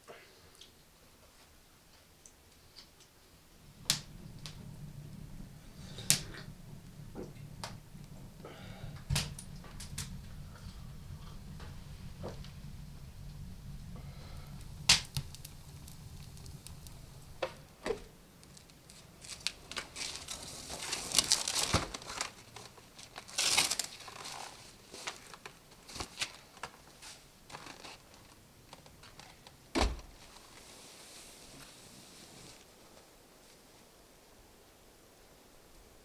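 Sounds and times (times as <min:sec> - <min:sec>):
rustling and crinkling: 0:03.3 - 0:33.7.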